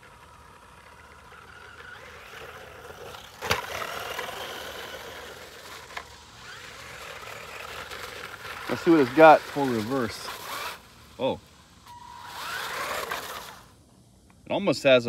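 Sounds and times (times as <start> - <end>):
tyres crunching on dirt: 0.0 - 13.8
electric motors whining: 0.0 - 13.9.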